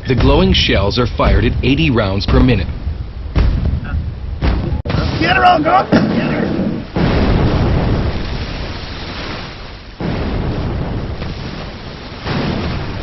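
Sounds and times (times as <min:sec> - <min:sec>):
heavy naval gunfire booms: 0:00.0 - 0:13.0.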